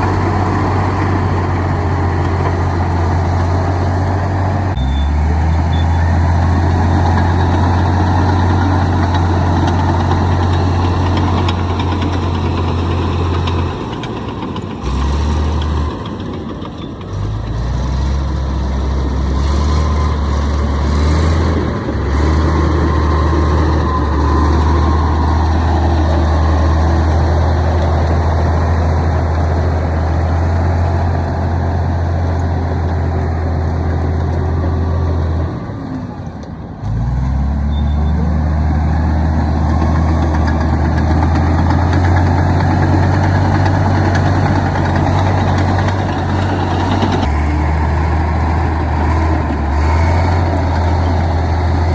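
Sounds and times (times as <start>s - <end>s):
bulldozer diesel engine droning: 0.0s - 51.9s.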